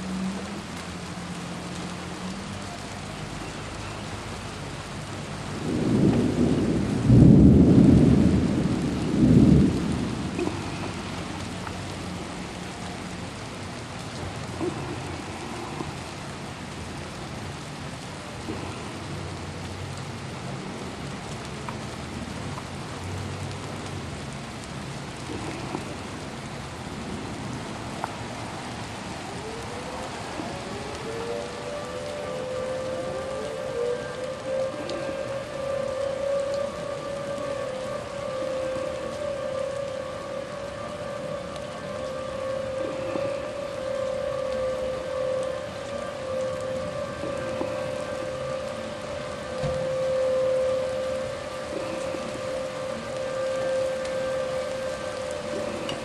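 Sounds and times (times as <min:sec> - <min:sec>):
steady rain: 0:00.0 - 0:56.0
thunder rumbling: 0:00.0 - 0:56.0.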